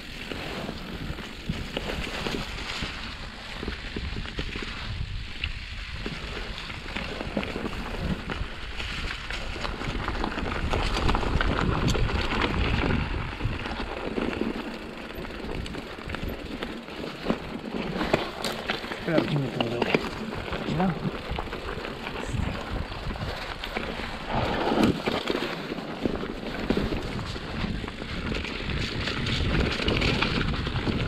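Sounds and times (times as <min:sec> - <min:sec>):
wind rushing over microphone: 0:00.0 - 0:16.6, 0:17.2 - 0:31.0
bike clicks and rattles: 0:00.0 - 0:31.0.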